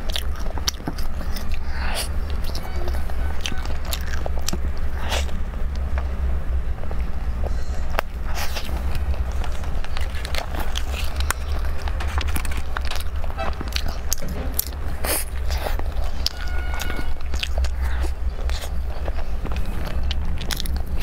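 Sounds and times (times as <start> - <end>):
chewing with wet mouth clicks: 0.0 - 6.1, 6.8 - 21.0
steady low hum: 0.0 - 21.0.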